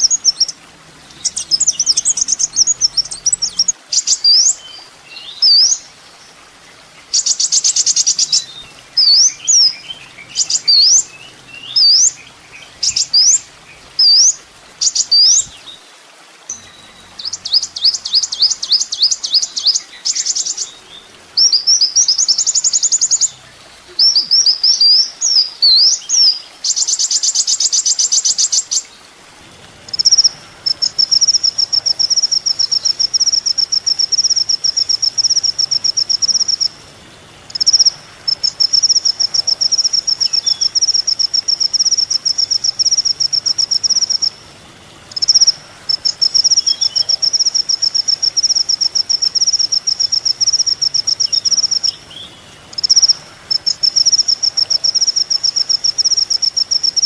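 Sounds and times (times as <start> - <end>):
sunbird singing: 0.0 - 29.0, 29.9 - 36.9, 37.5 - 44.5, 45.1 - 57.0.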